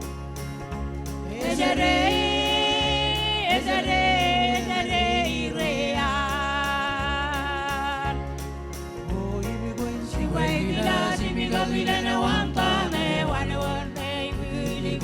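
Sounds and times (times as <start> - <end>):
gospel song with beat: 0.0 - 15.0
low bass line: 0.0 - 15.0.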